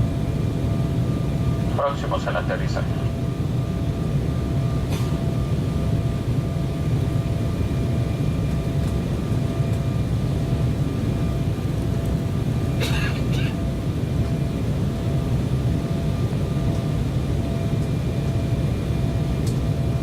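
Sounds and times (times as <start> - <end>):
airliner cabin rumble: 0.0 - 20.0
faint steady whine: 0.0 - 20.0.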